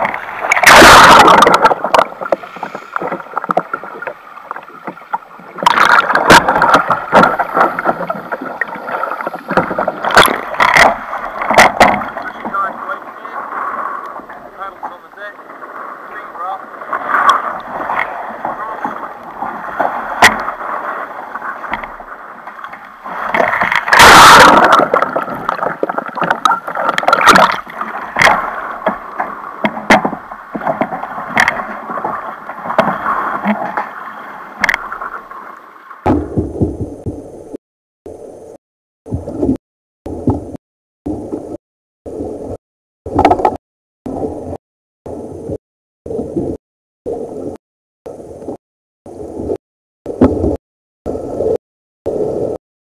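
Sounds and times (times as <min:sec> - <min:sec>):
water splashing against kayak: 0:00.0 - 0:52.6.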